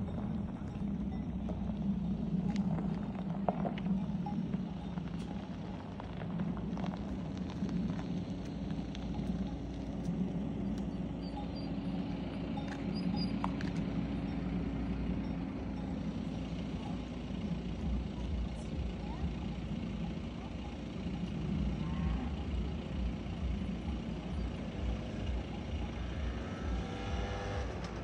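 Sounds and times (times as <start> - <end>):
cow hooves clopping on pavement: 0.0 - 28.0
low mechanical hum: 0.0 - 28.0
motorbike engine: 0.0 - 28.0.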